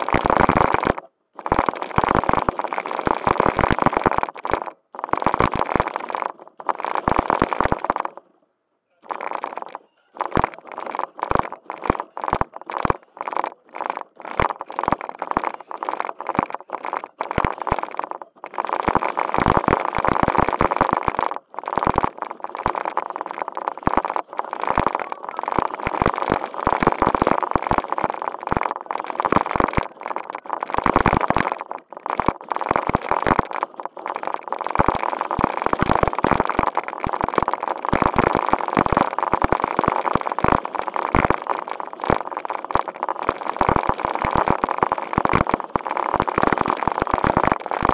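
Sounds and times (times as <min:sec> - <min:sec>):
rushing crackling noise: 0:00.0 - 0:08.3, 0:09.0 - 0:47.9
faint steady whine: 0:00.0 - 0:47.9.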